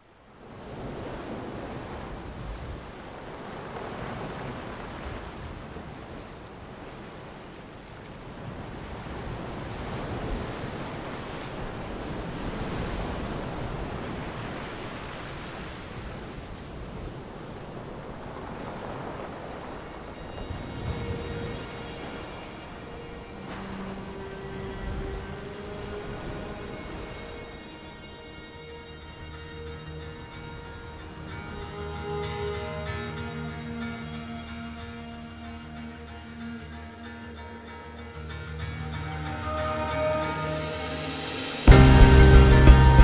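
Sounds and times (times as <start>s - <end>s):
sea waves washing: 0.0s - 43.0s
wind: 0.0s - 43.0s.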